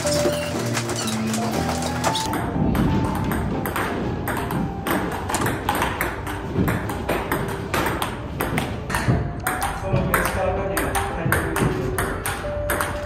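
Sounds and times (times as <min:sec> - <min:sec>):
ping-pong ball hitting paddles and table: 0:00.0 - 0:13.0.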